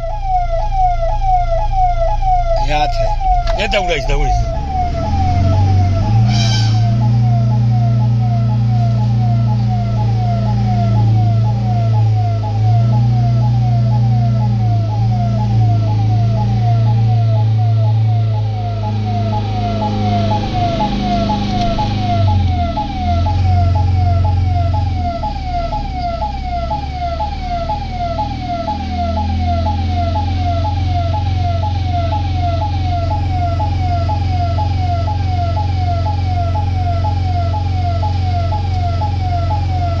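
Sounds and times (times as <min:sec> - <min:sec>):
electronic siren sweeping: 0:00.0 - 0:40.0
low engine hum: 0:00.0 - 0:40.0.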